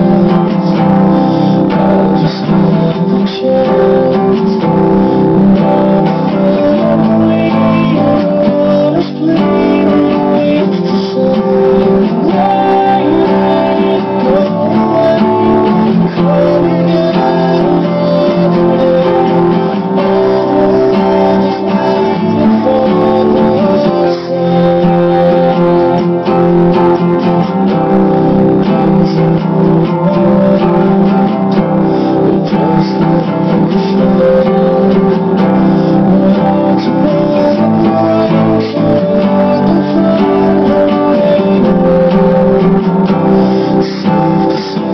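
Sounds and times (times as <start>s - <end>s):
acoustic guitar chords: 0.0s - 44.9s.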